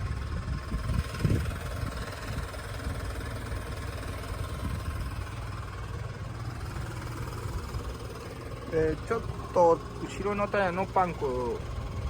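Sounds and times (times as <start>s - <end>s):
forklift engine idling: 0.0s - 12.0s.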